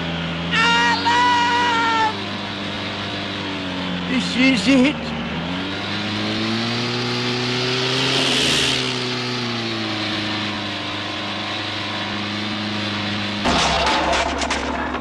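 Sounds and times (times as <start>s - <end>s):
propeller aircraft engine droning: 0.0s - 13.5s.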